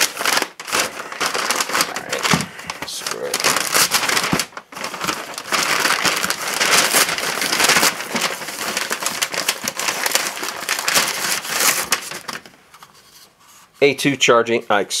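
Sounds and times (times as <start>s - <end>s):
envelope crinkling and rustling: 0.0s - 13.3s.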